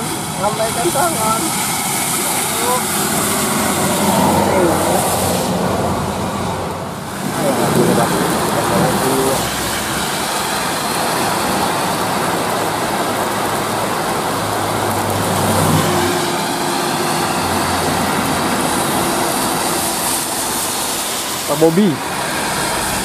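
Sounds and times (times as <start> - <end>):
heavy rain: 0.0 - 23.0
low engine hum: 0.0 - 23.0
tyres hissing on wet road: 0.0 - 23.0.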